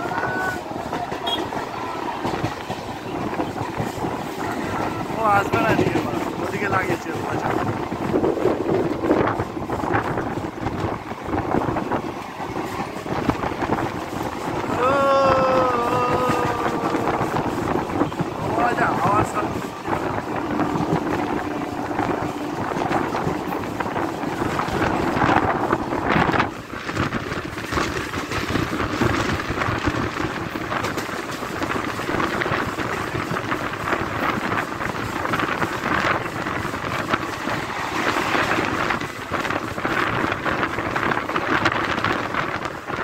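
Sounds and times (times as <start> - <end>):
train wheels rattling: 0.0 - 43.0
wind buffeting microphone: 0.0 - 43.0.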